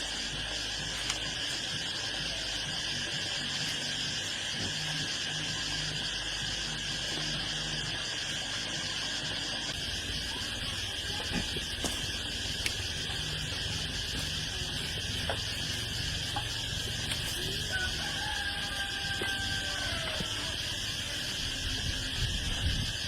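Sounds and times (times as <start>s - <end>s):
insect chorus: 0.0s - 23.0s.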